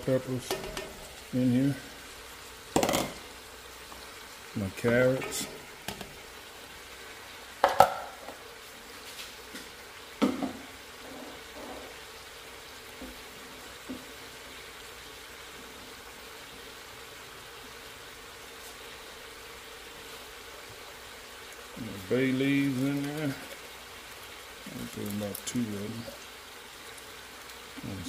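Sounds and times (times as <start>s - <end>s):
food sizzling in a pot: 0.0s - 28.0s.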